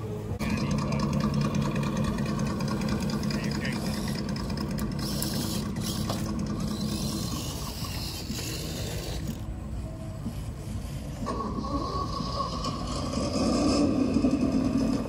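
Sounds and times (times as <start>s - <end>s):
toy truck motors whirring: 2.3s - 15.0s.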